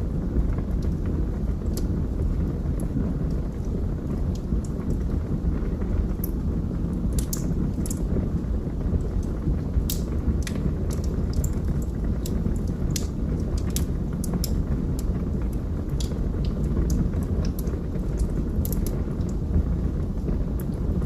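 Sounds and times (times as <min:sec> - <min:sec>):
burning wood crackling and popping: 0:00.0 - 0:21.0
fire flames rumbling: 0:00.0 - 0:21.0.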